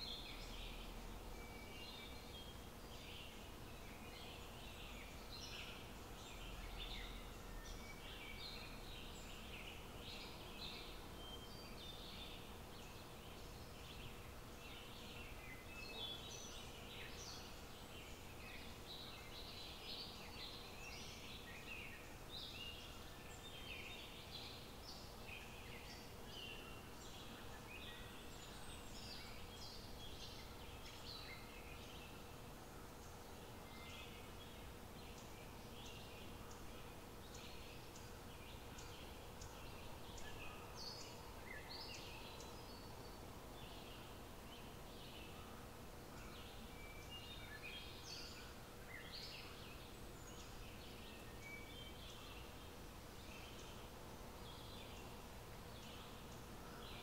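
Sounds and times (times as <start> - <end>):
small birds chirping: 0.0 - 57.0
thin constant hum: 0.0 - 57.0.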